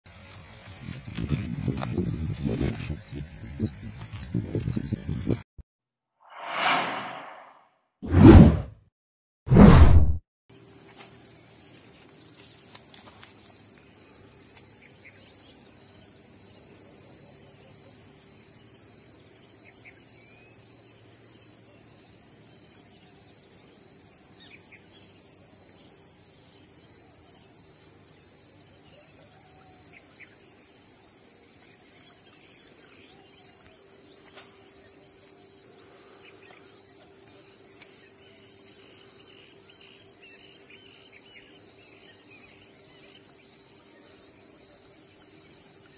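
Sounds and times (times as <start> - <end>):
crickets chirring: 0.1 - 5.4, 10.6 - 45.9.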